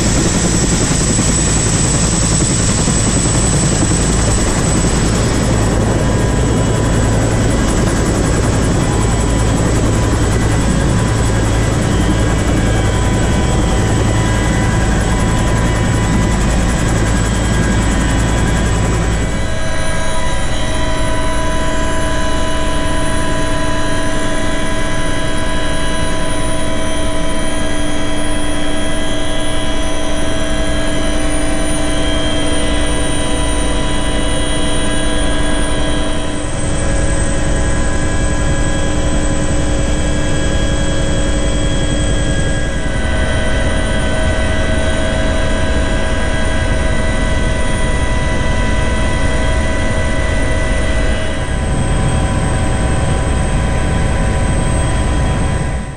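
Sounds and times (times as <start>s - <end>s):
helicopter turbine and rotor drone: 0.0s - 55.9s
steady whining tones: 0.0s - 55.9s.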